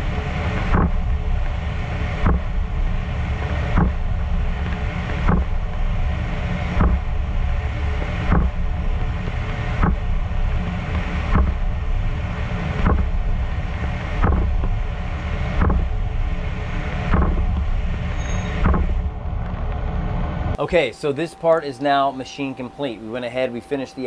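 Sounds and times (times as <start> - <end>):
lathe running: 0.0 - 24.0.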